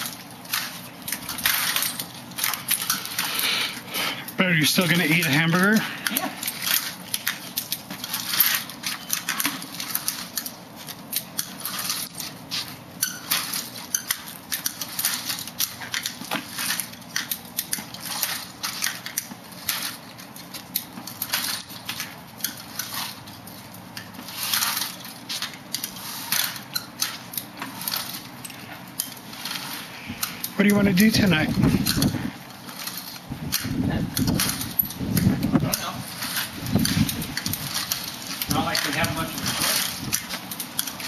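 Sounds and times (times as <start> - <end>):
walker scraping on concrete: 0.0 - 41.0.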